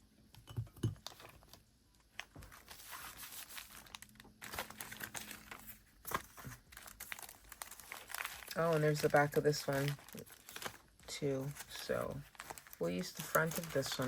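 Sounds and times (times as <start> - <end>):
paper rustling and crinkling: 1.0 - 14.0.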